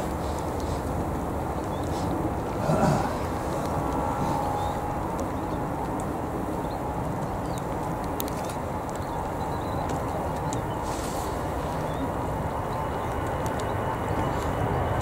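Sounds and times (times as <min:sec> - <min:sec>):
distant jet engines rumbling: 0:00.0 - 0:15.0
faint jet whine: 0:00.0 - 0:15.0.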